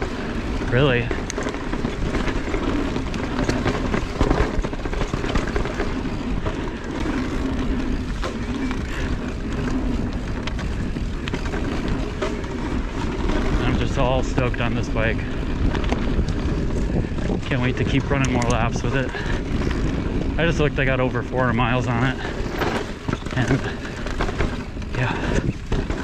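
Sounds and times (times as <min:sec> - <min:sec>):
bike riding rumble: 0:00.0 - 0:26.0
clicks and rattles: 0:00.0 - 0:26.0.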